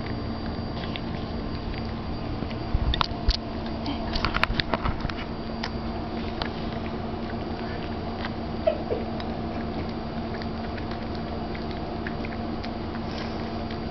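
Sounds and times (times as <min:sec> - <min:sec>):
cats chewing clicks: 0:00.0 - 0:13.9
steady low hum: 0:00.0 - 0:13.9.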